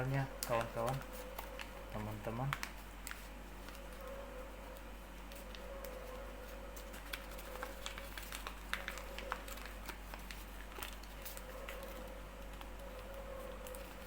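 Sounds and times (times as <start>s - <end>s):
faint steady hum: 0.0s - 14.0s
paper rustling and crinkling: 0.0s - 14.0s.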